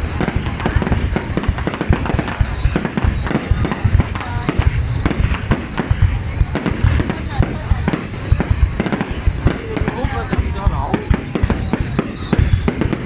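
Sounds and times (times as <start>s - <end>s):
deep booming rumble: 0.0s - 13.0s
fireworks bangs and crackles: 0.0s - 13.0s.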